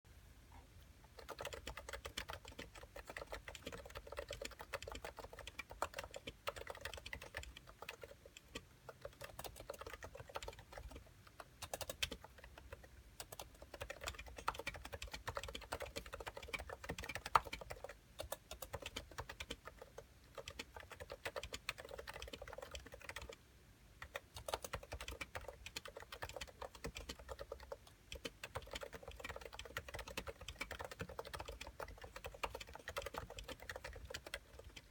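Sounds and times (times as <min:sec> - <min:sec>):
keyboard typing: 0:01.1 - 0:23.4, 0:24.0 - 0:34.9.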